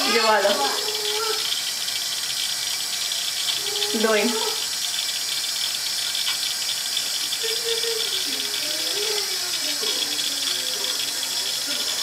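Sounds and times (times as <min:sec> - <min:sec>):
tap running into sink: 0:00.0 - 0:12.0.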